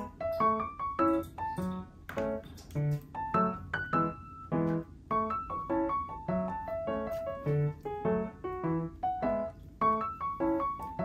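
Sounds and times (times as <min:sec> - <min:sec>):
light piano melody: 0:00.0 - 0:11.0.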